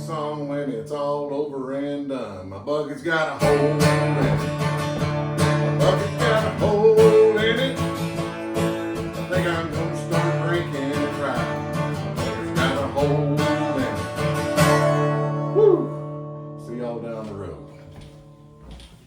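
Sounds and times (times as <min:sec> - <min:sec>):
guitar chords strummed: 0:03.4 - 0:18.7.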